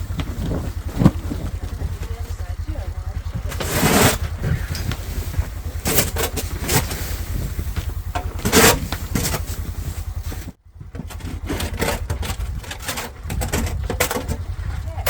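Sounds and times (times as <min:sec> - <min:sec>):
scrapes and knocks: 0:00.0 - 0:02.4, 0:03.3 - 0:14.8
snowmobile engine idling: 0:00.0 - 0:15.0.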